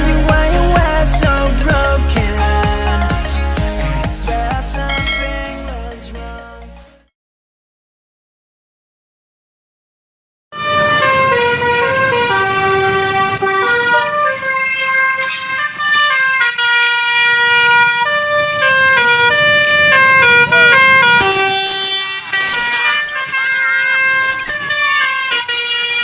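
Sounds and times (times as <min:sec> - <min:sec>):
bus horn playing a tune: 0:00.0 - 0:05.9, 0:10.6 - 0:26.0.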